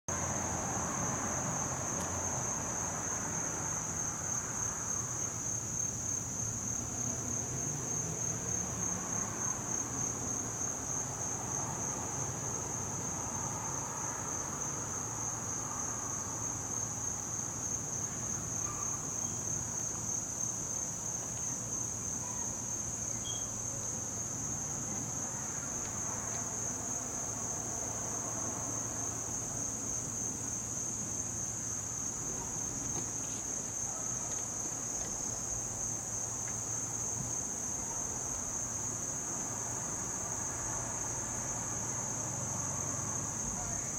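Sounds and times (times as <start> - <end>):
crickets trilling: 0.1 - 43.9.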